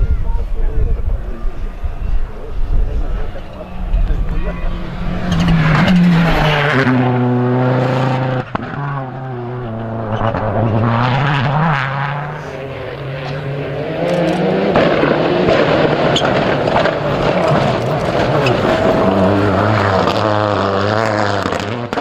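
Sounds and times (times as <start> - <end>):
rally car engine at high revs: 3.8 - 22.0.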